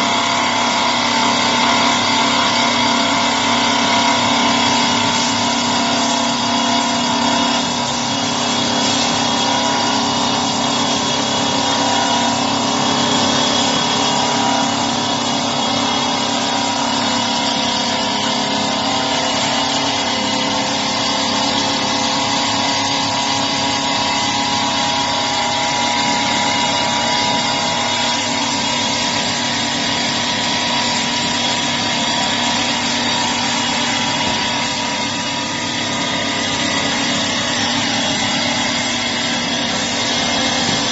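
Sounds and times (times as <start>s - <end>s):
wood-turning lathe hum and whine: 0.0s - 40.9s.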